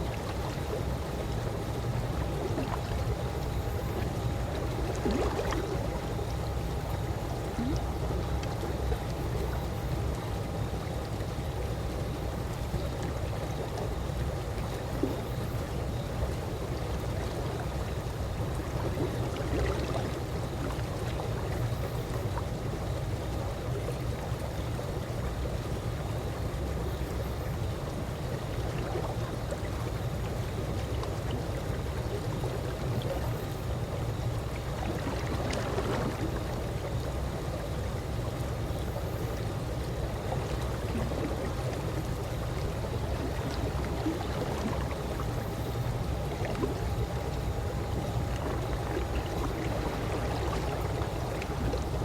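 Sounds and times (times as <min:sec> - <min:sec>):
pool water lapping: 0:00.0 - 0:52.0.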